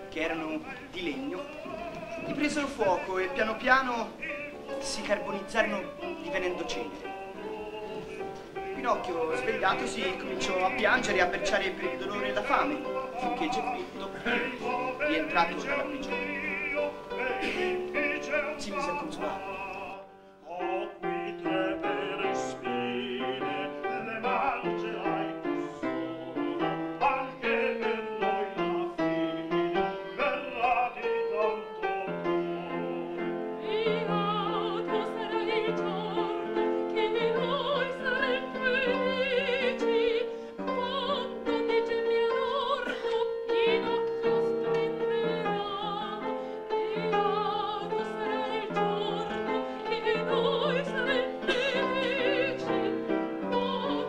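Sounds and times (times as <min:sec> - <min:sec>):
operatic singing with vibrato: 0:00.0 - 0:54.0
piano accompaniment: 0:00.0 - 0:54.0.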